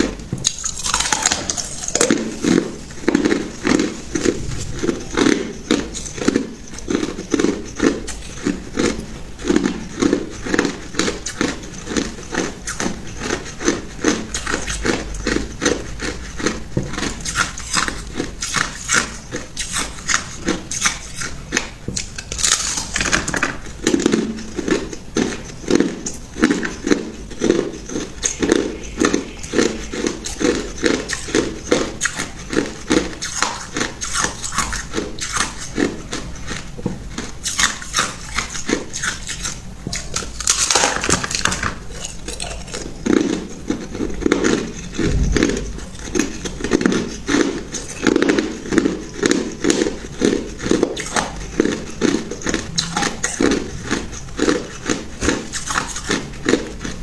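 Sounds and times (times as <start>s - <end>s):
ice being crunched and chewed: 0.0s - 57.0s.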